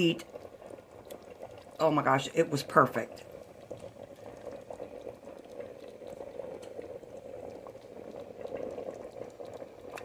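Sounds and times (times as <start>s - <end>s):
broth bubbling in a pot: 0.0s - 10.0s.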